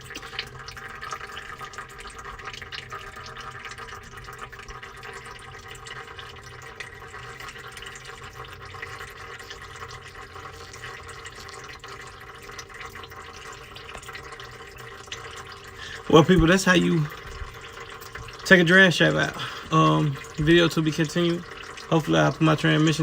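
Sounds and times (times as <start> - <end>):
fluid dripping and running: 0.0 - 23.0.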